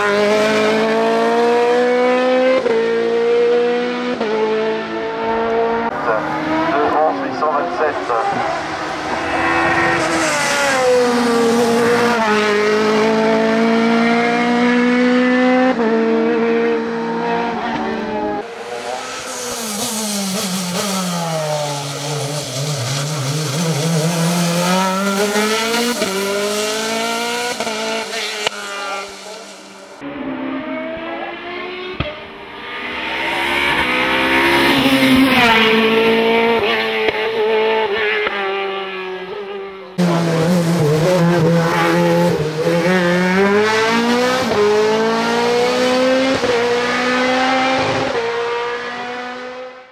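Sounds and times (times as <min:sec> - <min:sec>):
race car engine revving: 0:00.0 - 0:49.9.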